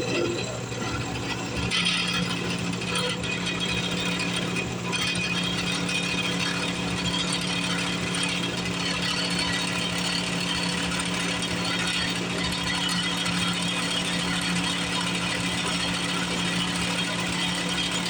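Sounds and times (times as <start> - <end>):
end mill cutting aluminium: 0.0 - 18.0
motor and belt hum: 0.0 - 18.0.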